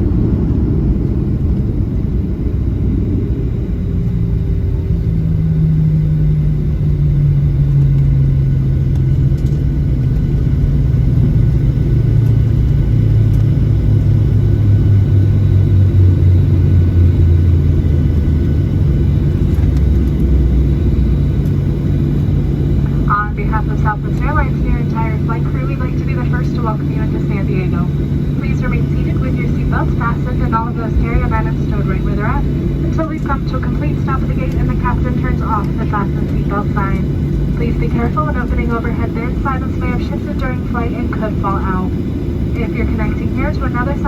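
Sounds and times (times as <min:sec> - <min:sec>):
jet cabin low rumble: 0:00.0 - 0:44.0
jet engines spooling down: 0:00.0 - 0:44.0.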